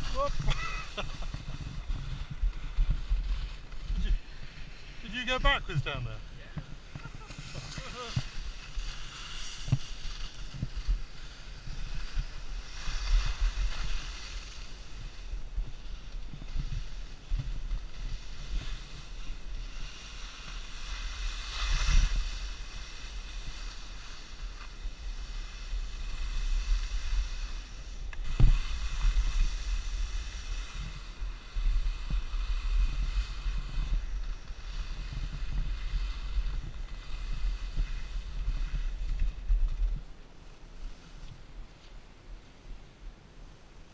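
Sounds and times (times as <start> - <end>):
wind buffeting microphone: 0.0 - 40.3
skis sliding on snow: 0.0 - 43.9.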